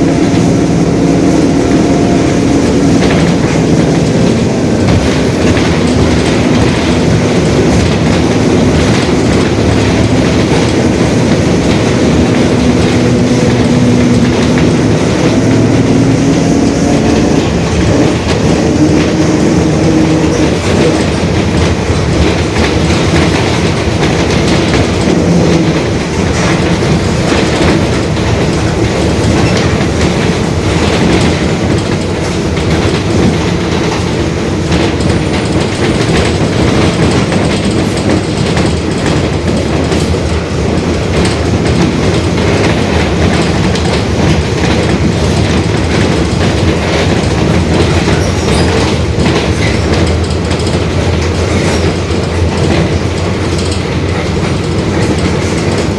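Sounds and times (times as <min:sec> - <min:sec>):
bus diesel engine: 0:00.0 - 0:55.9
body rattles and clatter: 0:00.1 - 0:55.9.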